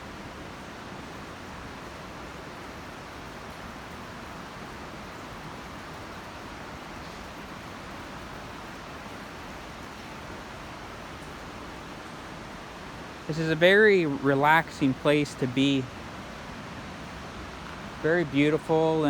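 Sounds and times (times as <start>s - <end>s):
fast-flowing river water: 0.0s - 19.0s.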